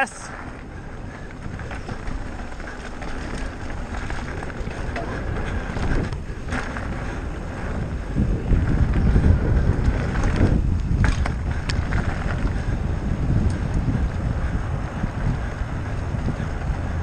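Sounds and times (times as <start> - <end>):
tyres rolling on dirt: 0.0 - 17.0
wind rumbling on microphone: 0.0 - 17.0
bike knocks and rattles: 1.0 - 17.0.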